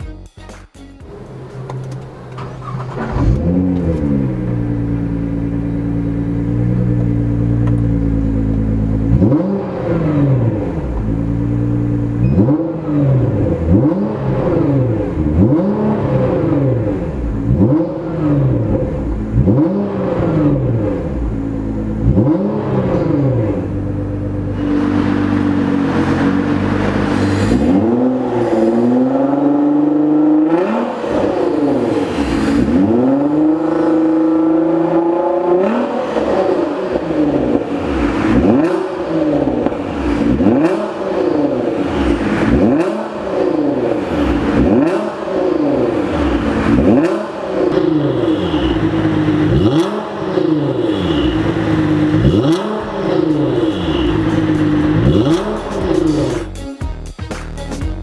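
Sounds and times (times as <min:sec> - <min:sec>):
car engine revving: 0:01.0 - 0:56.6.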